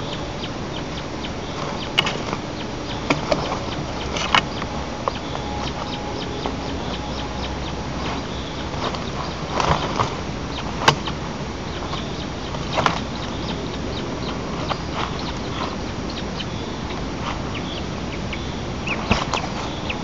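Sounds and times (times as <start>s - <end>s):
twigs cracking: 1.3s - 17.7s.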